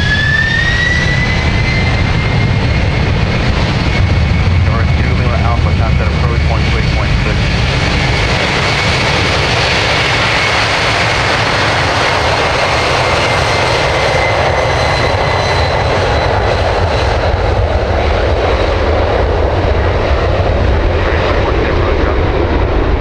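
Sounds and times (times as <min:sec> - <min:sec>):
high engine whine: 0:00.0 - 0:23.0
jet engines roaring: 0:00.0 - 0:23.0.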